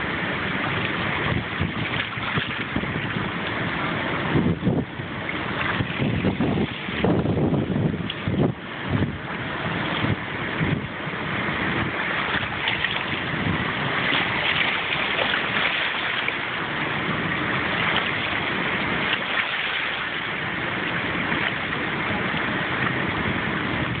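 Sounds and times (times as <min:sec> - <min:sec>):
water rushing through dam spillway: 0:00.0 - 0:24.0.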